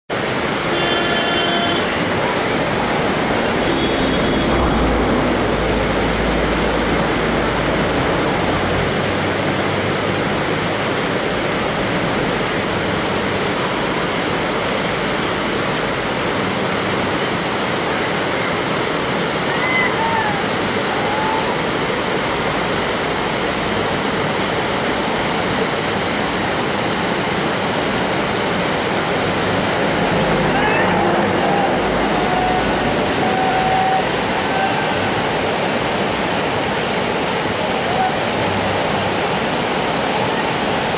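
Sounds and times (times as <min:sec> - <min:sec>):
rushing river rapids: 0:00.1 - 0:40.9.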